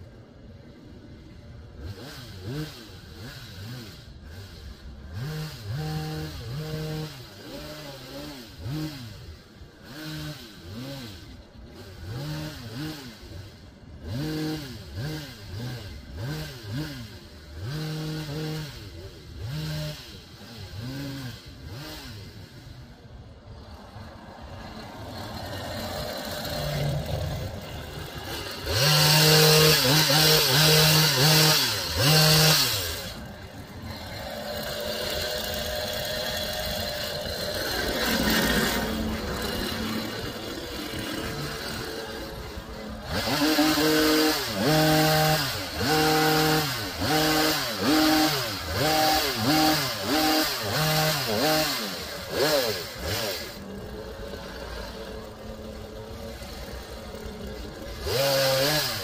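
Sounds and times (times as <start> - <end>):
hedge trimmer engine revving: 1.4 - 59.0.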